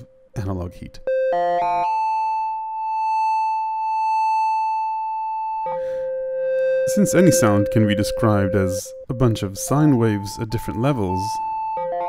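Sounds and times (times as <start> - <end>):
synth tones: 1.0 - 12.0.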